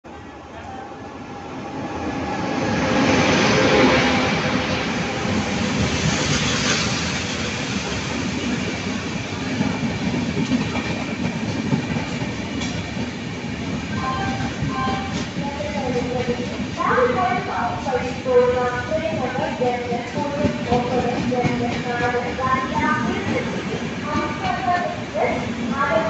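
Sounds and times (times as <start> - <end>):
train wheels rushing on rails: 1.2 - 26.0.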